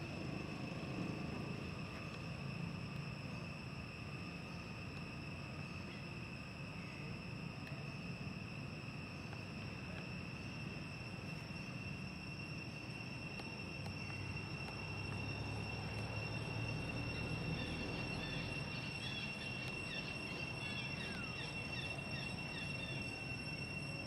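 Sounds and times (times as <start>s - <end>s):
insects droning: 0.0s - 24.0s
low outdoor background rumble: 0.0s - 24.0s.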